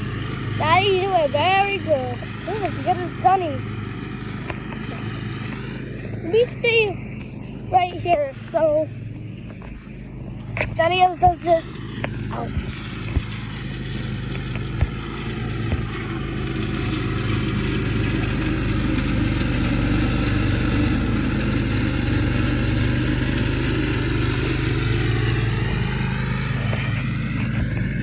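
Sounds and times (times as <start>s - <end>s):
riding lawn mower engine: 0.0s - 28.0s.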